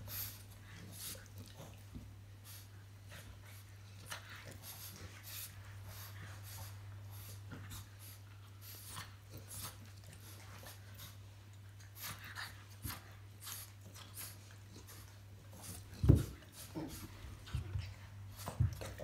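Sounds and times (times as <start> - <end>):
dogs snuffling breaths: 0.0 - 19.0.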